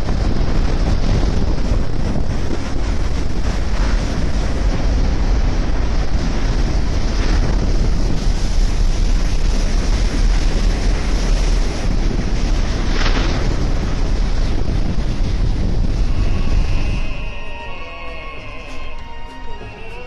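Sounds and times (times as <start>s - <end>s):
wind buffeting microphone: 0.0s - 17.5s
waves breaking along ship hull: 0.0s - 19.0s.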